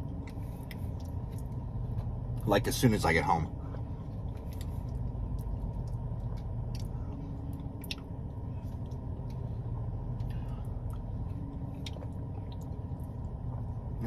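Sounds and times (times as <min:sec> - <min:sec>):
low rumble in car cabin: 0:00.0 - 0:14.0.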